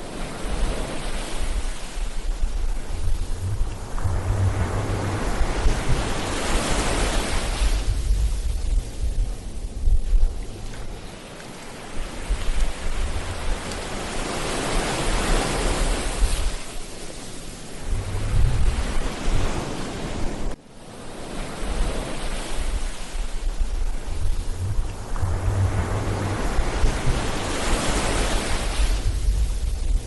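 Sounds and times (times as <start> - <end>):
sea waves breaking on beach: 0.0 - 30.0
wind rumbling on microphone: 0.0 - 30.0.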